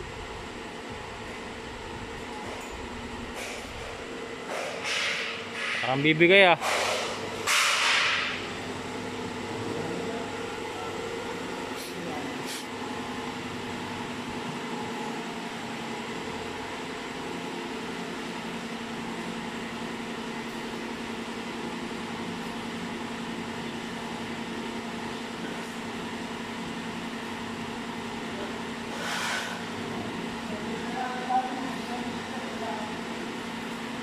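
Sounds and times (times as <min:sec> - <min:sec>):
workshop machinery humming: 0:00.0 - 0:34.0.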